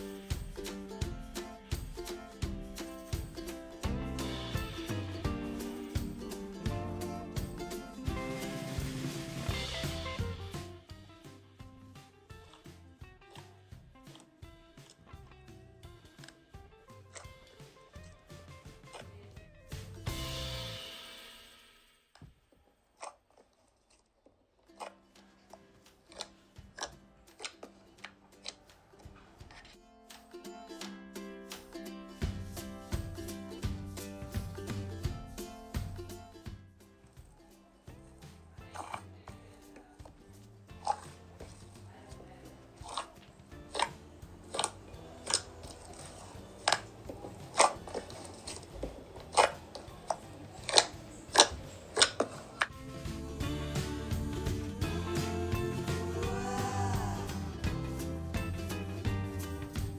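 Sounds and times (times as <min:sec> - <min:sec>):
faint music: 0:00.0 - 0:22.2, 0:24.4 - 0:59.9.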